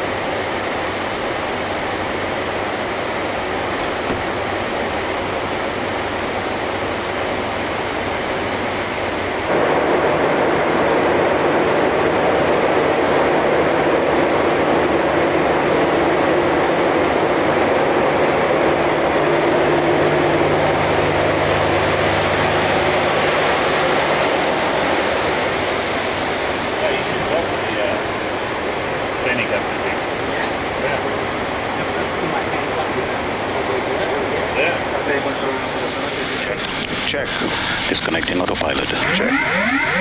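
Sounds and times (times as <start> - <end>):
rush of air in cockpit: 0.0 - 39.0
low hum: 0.0 - 40.0.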